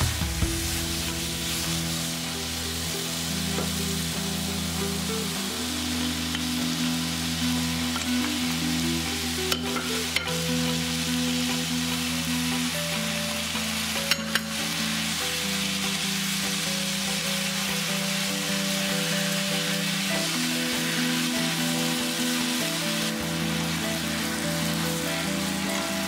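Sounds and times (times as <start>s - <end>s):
pork sizzling in a pan: 0.0s - 26.0s.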